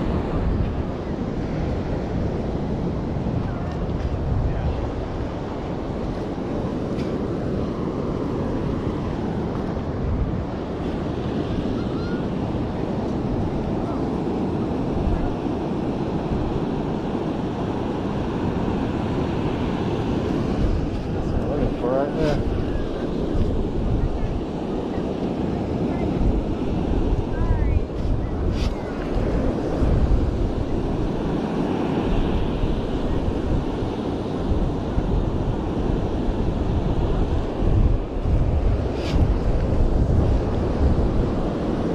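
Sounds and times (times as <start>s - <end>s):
ocean surf rushing: 0.0s - 41.9s
wind buffeting microphone: 0.0s - 41.9s.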